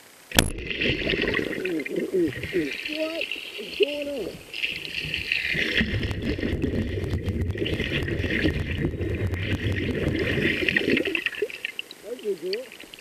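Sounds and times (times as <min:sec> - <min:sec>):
underwater rumbling and bubbling: 0:00.4 - 0:11.7.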